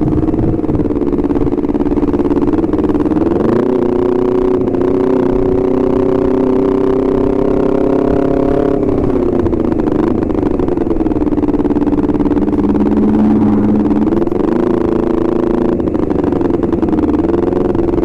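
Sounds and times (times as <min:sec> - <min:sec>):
motorcycle engine revving: 0:00.0 - 0:18.0
wind and road rumble: 0:00.0 - 0:18.0.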